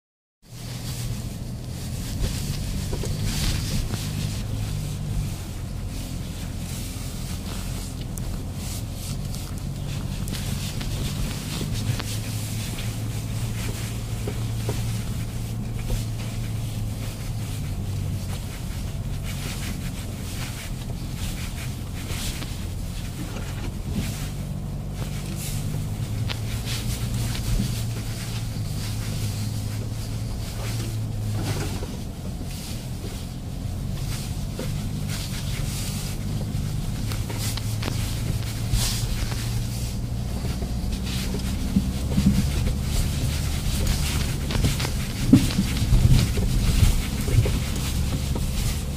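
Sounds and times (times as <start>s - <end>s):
diesel engine droning: 0.4s - 48.9s.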